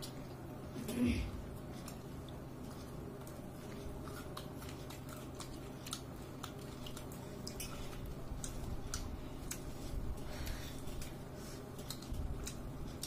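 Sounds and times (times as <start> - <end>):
faint steady hum: 0.0 - 13.0
chewing and mouth smacks: 1.5 - 13.0.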